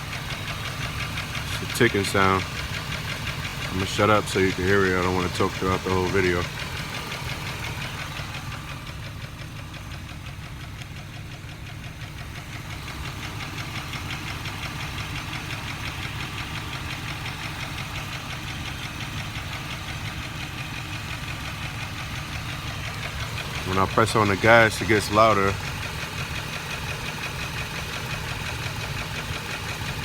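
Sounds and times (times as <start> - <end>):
car engine ticking: 0.0 - 30.0.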